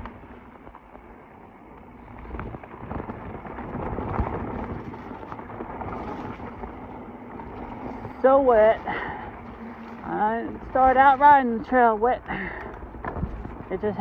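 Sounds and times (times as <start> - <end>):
bike tyres and wind rushing: 0.0 - 14.0.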